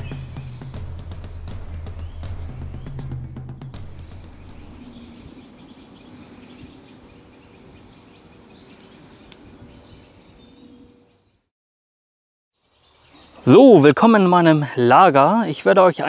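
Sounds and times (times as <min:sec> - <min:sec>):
small birds chirping: 0:00.0 - 0:11.5, 0:12.6 - 0:16.0.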